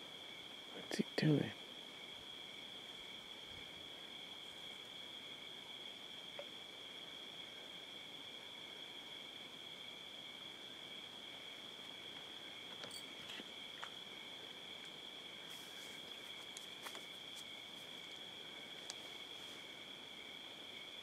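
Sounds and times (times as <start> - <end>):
night insects chirring: 0.0 - 21.0.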